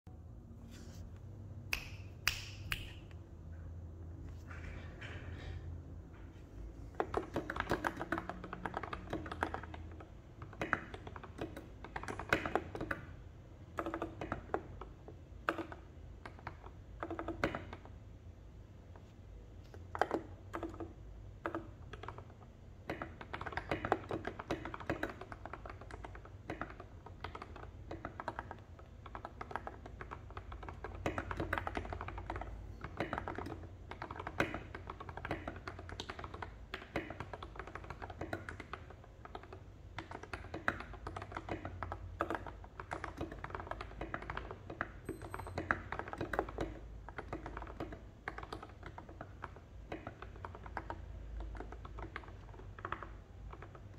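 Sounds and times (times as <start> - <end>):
mechanical keyboard typing: 6.9 - 18.0, 19.7 - 53.9.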